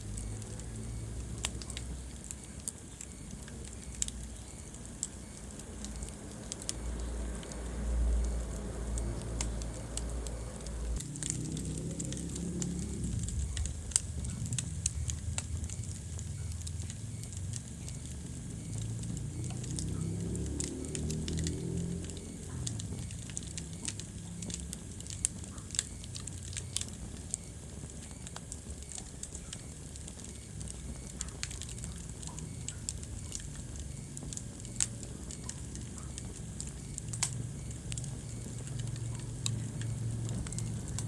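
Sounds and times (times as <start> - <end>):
low rumble of flames: 0.0 - 41.0
wood fire crackling and popping: 0.0 - 41.0.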